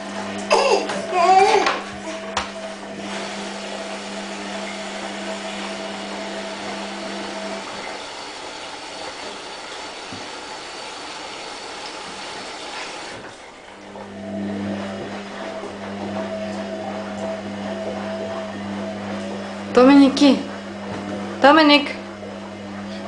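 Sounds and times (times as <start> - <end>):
washing machine hum: 0.0 - 23.0.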